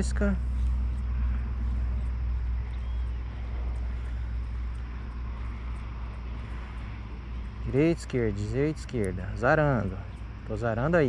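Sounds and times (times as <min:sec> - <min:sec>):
low rumble: 0:00.0 - 0:11.0
outdoor background hiss: 0:00.0 - 0:11.0.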